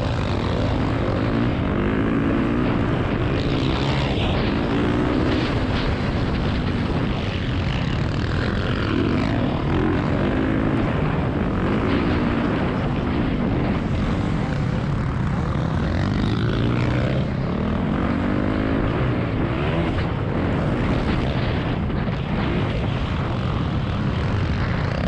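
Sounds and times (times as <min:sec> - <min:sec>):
motocross bike engine revving: 0:00.0 - 0:25.0
wind noise on microphone: 0:00.0 - 0:25.0.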